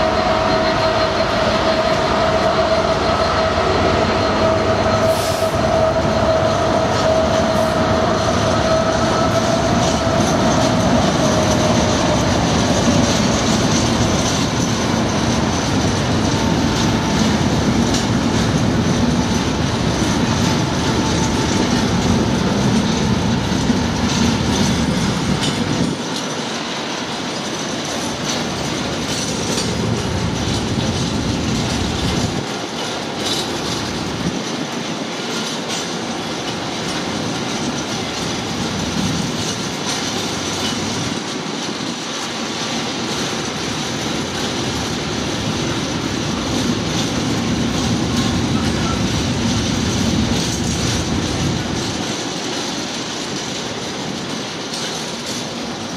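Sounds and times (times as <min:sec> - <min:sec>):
wagon wheels rolling on rails: 0:05.8 - 0:55.9.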